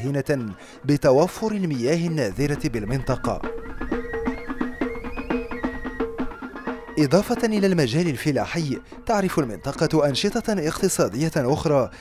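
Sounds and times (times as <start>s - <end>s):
traditional instrumental music: 0.0s - 12.0s.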